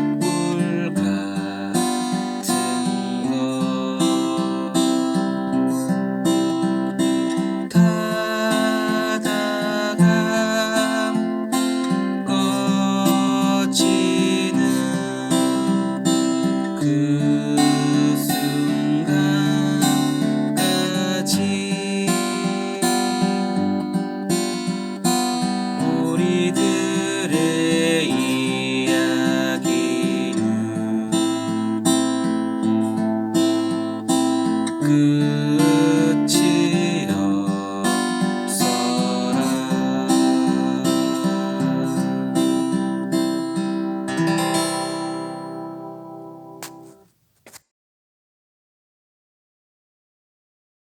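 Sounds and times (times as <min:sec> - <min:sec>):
acoustic guitar strummed in waltz rhythm: 0:00.0 - 0:47.1.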